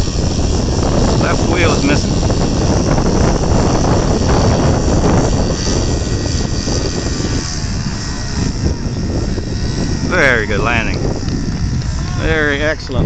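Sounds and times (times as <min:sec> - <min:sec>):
model airplane engine: 0:00.0 - 0:13.0
wind noise on microphone: 0:00.0 - 0:13.0.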